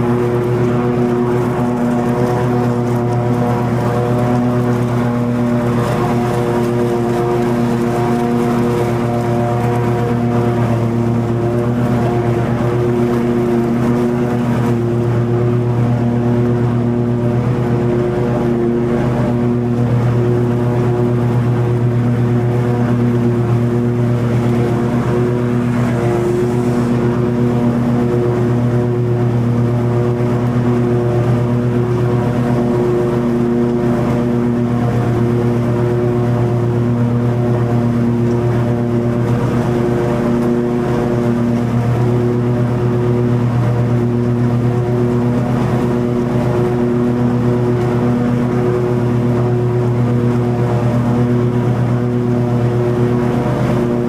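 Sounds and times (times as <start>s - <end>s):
lawn mower cutting grass: 0.0s - 54.0s.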